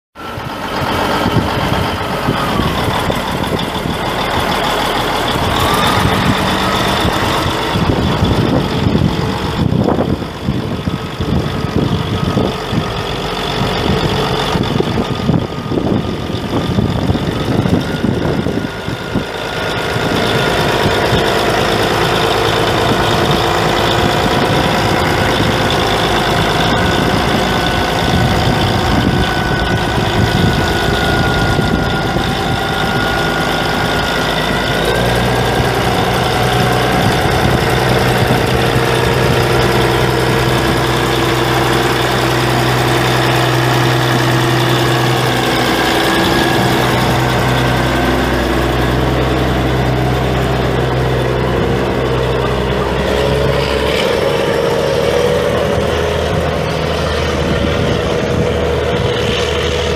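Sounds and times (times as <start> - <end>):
diesel tractor engine running: 0.1 - 59.9
high whines: 0.2 - 59.9.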